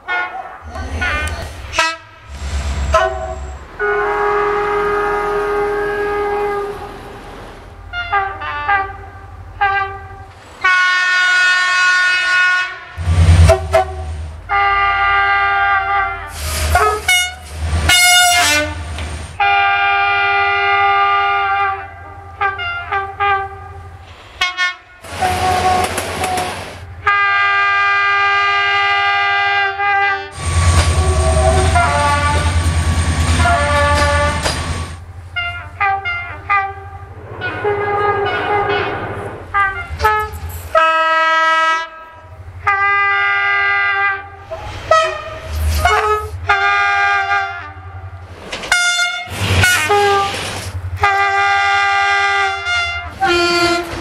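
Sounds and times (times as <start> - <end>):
locomotive horn blasts: 0.0 - 7.1, 7.8 - 48.1, 48.7 - 50.4, 51.0 - 54.0
passing train rumble: 0.0 - 54.0.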